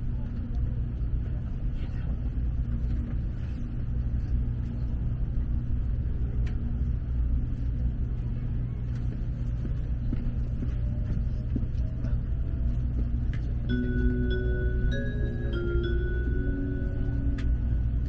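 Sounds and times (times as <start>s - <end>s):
faint hum: 0.0s - 18.0s
train rumbling inside cabin: 0.0s - 18.0s.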